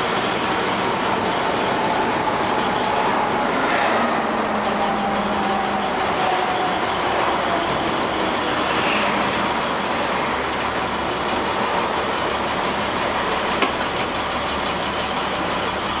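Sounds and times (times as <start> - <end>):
bus diesel engine and road noise: 0.0 - 16.0.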